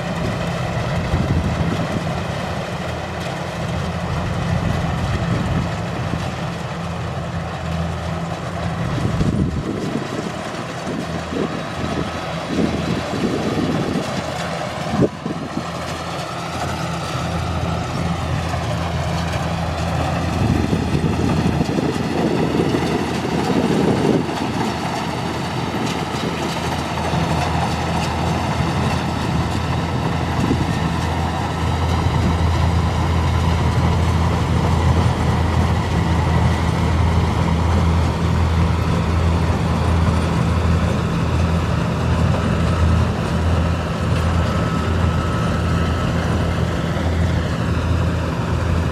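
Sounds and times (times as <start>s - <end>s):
combine harvester humming: 0.0s - 48.9s.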